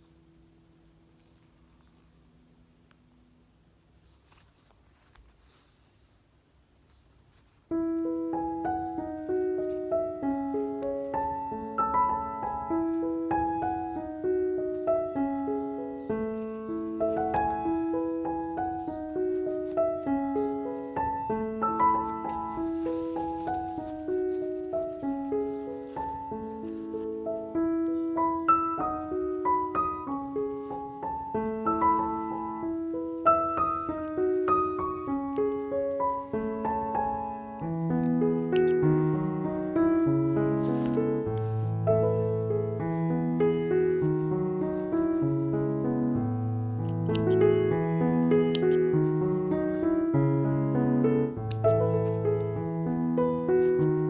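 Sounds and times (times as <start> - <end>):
gentle piano melody: 0.0 - 5.6, 7.3 - 54.0.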